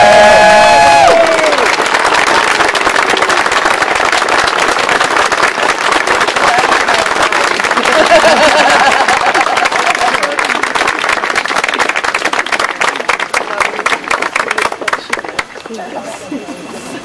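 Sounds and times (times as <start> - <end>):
crowd applauding: 0.0 - 15.8.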